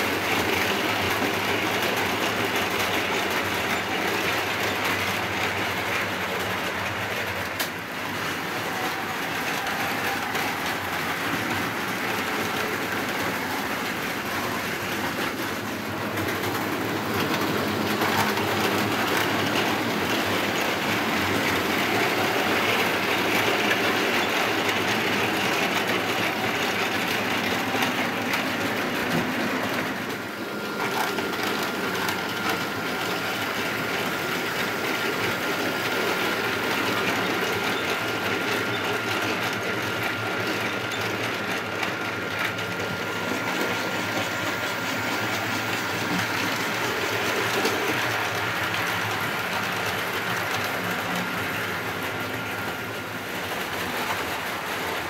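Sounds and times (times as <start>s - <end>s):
model train motors humming: 0.0s - 55.0s.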